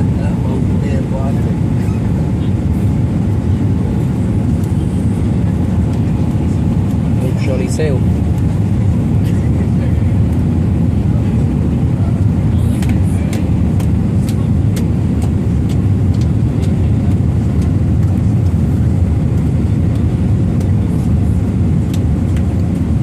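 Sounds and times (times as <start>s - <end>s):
airliner cabin engine roar: 0.0s - 23.0s.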